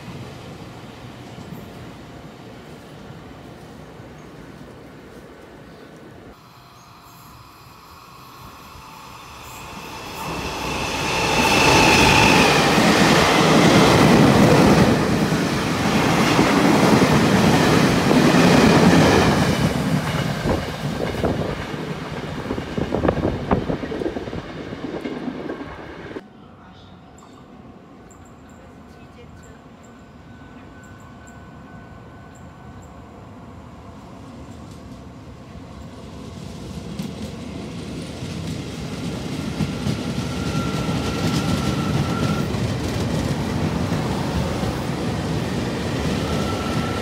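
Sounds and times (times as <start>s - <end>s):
train rumbling: 0.0s - 26.2s, 27.1s - 47.0s.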